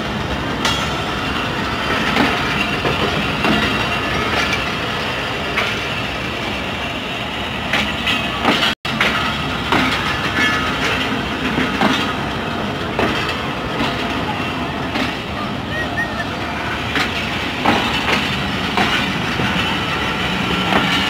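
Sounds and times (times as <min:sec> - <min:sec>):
train wheels rumbling on rail: 0:00.0 - 0:21.0
wheels clacking over rail joints: 0:00.0 - 0:21.0.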